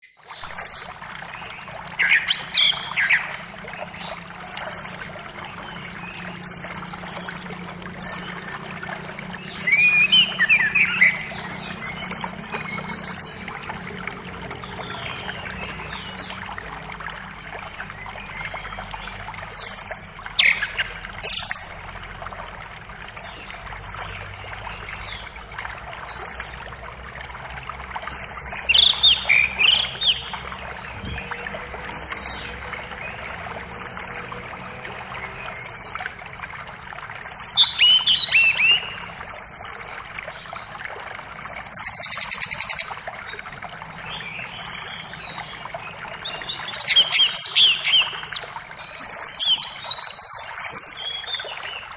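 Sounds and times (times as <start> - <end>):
creek flowing: 0.0 - 51.9.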